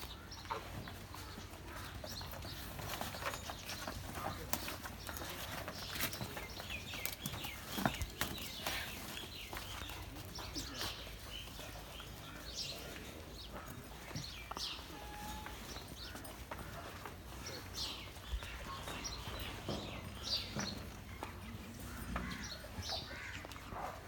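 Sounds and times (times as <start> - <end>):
hooves clicking and knocking: 0.0 - 24.0
small birds chirping: 0.0 - 24.0.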